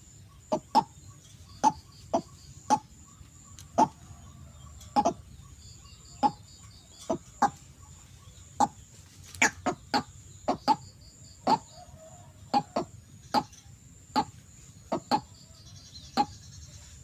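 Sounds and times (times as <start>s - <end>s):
bird clucking calls: 0.0s - 17.0s
high insect whine: 0.0s - 17.0s.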